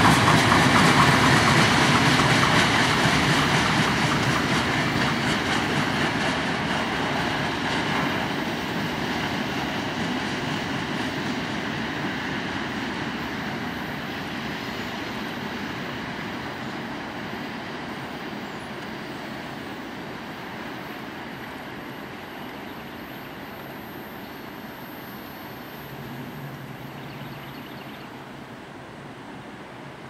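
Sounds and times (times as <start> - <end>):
train wheels rolling on rails: 0.0 - 30.0.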